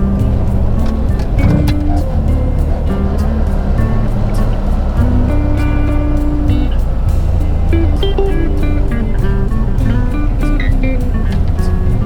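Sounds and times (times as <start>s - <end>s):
car engine rumble: 0.0s - 12.0s
jazz blues music: 0.0s - 12.0s.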